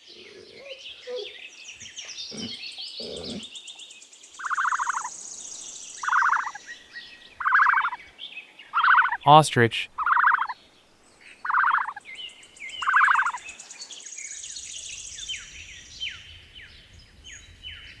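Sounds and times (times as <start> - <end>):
small birds chirping: 0.1 - 9.2, 11.4 - 18.0.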